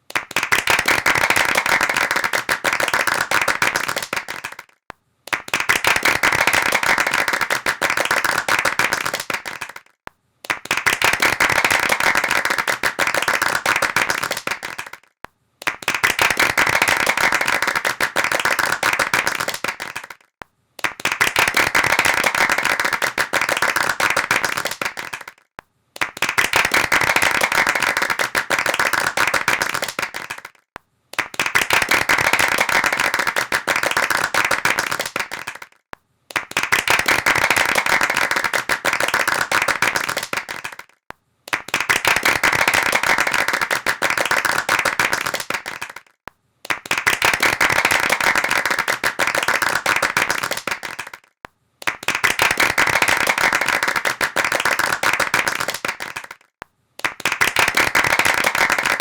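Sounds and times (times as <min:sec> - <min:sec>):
hands clapping rapidly: 0:00.0 - 0:59.0.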